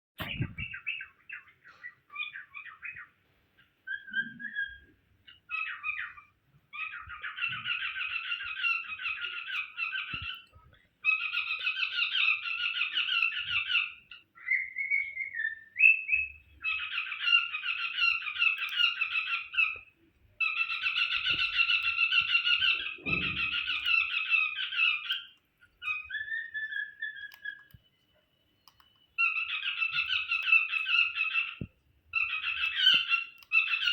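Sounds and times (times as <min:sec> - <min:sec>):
cockatiel chattering and warbling: 0:00.2 - 0:28.0, 0:28.6 - 0:33.9.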